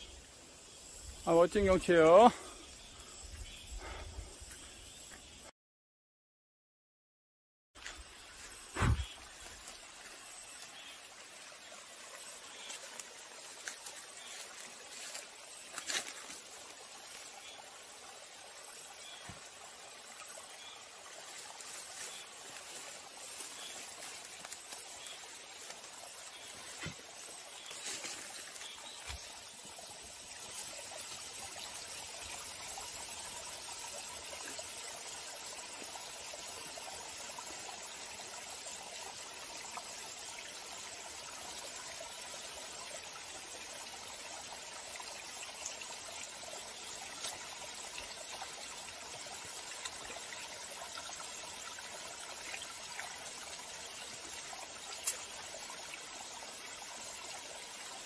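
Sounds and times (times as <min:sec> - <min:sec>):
water trickling over rocks: 0:00.0 - 0:05.4, 0:07.8 - 0:58.0.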